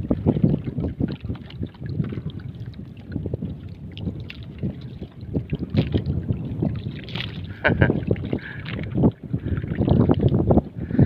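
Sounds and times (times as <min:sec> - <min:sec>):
water slapping wooden boat hull: 0:00.0 - 0:11.0
wind buffeting microphone: 0:00.0 - 0:11.0.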